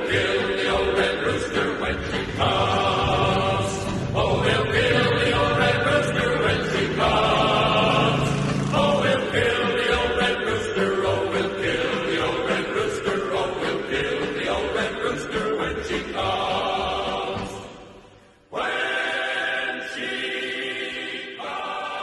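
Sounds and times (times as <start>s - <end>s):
wordless choir-like voices: 0.0s - 22.0s.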